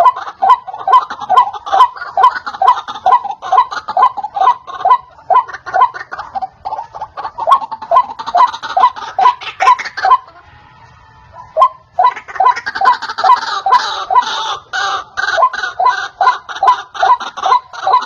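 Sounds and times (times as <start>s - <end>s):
bird calling harsh repeated notes: 0.0s - 18.0s.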